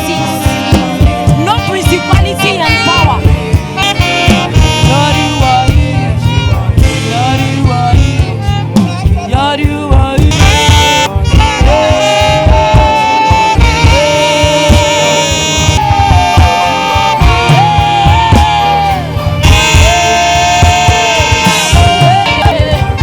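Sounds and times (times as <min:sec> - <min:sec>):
drums and bass: 0:00.0 - 0:23.0
saxophone melody: 0:00.0 - 0:23.0.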